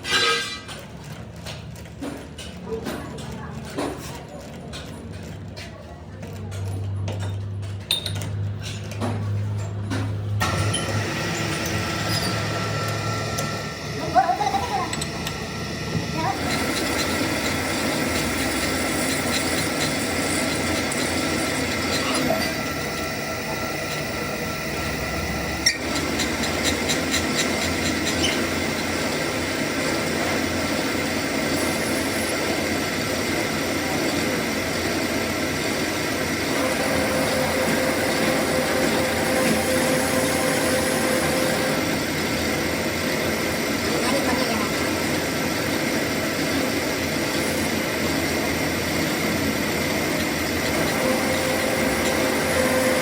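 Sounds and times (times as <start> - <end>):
workshop machine whining: 0.0 - 53.0.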